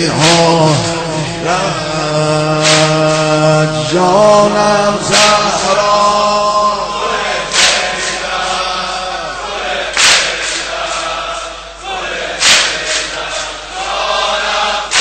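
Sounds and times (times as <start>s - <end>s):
unison chest-beating strikes: 0.0s - 13.6s
crowd chanting in chorus: 0.0s - 15.0s.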